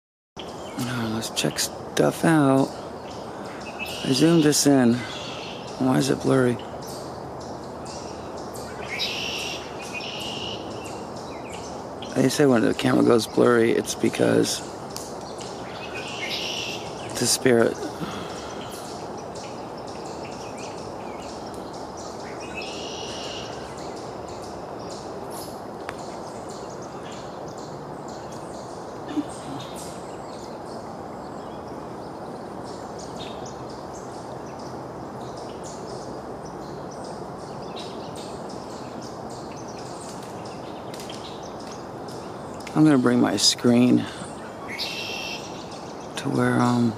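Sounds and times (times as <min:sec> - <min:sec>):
creek water running: 0:00.4 - 0:46.9
bird chirps: 0:02.6 - 0:46.9.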